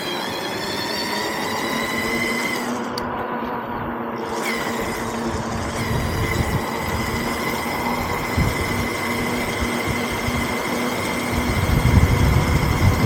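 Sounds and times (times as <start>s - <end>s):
road rumble: 0.0s - 13.0s
vehicle motor whining: 0.0s - 13.0s
wind: 0.0s - 13.0s.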